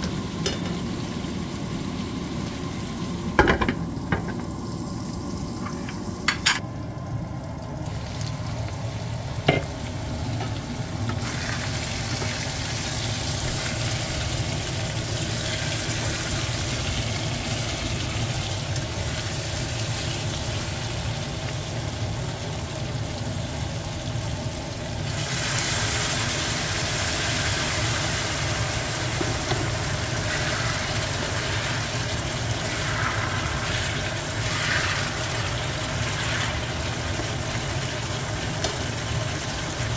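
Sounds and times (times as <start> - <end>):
meat sizzling in a pan: 7.9 - 39.9.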